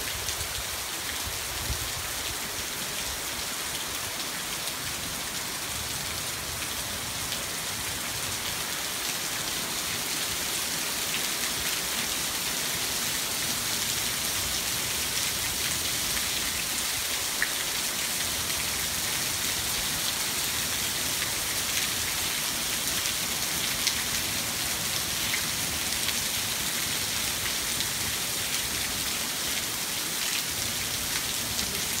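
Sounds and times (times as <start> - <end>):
rain hissing on foliage: 0.0 - 32.0.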